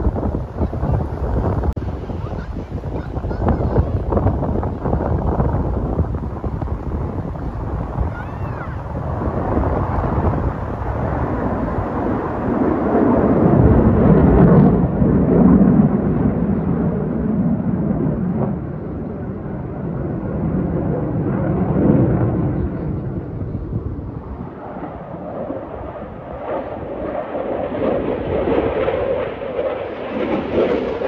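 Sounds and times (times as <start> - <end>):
jet aircraft roaring overhead: 0.0 - 31.0.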